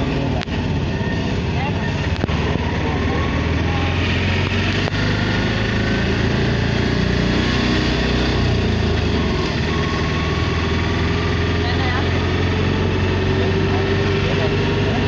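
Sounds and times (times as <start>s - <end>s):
small vehicle engine running: 0.0s - 15.0s
street noise: 0.0s - 15.0s.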